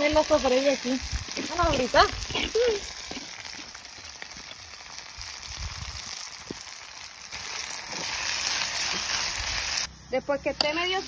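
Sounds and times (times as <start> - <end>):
okra sizzling in hot lard: 0.0 - 11.0.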